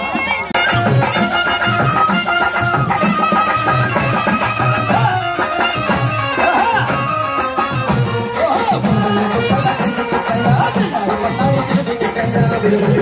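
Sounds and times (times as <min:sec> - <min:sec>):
steady drumbeat: 0:00.0 - 0:13.0.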